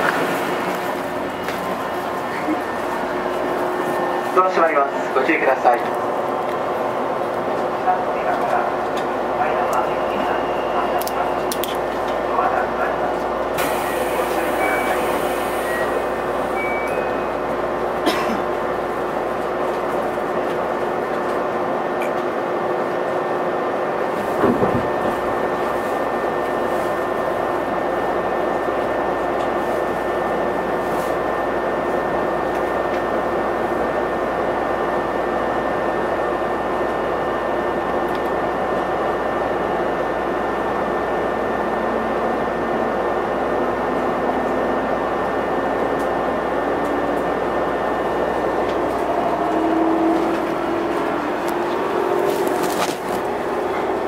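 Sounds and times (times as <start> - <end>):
electric train hum: 0.0 - 54.0.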